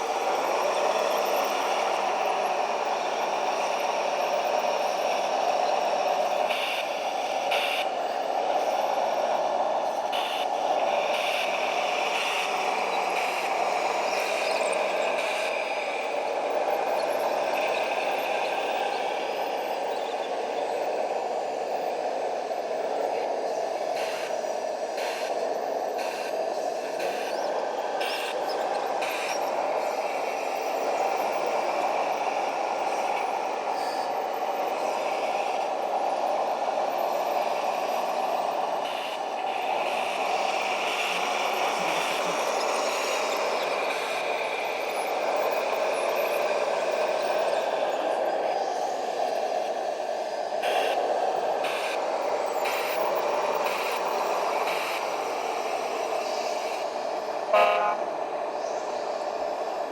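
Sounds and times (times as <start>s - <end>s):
model trucks mechanical whine: 0.0s - 59.9s.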